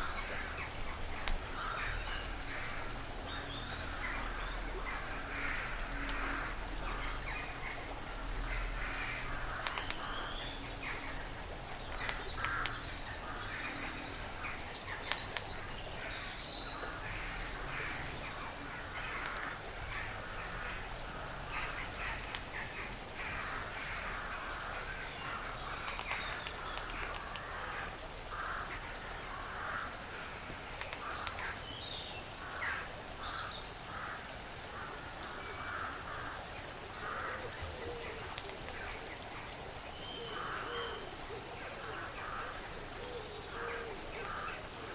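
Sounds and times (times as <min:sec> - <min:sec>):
birds calling: 0:00.0 - 0:44.9.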